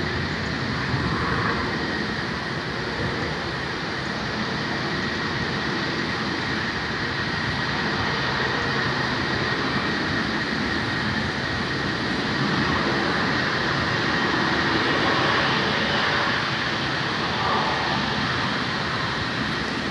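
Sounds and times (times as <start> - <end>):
jet engines at takeoff thrust: 0.0 - 19.9.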